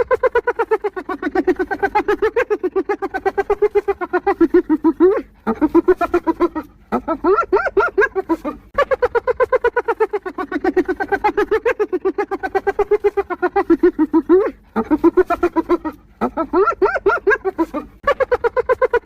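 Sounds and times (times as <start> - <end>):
hyena giggling: 0.0 - 19.0.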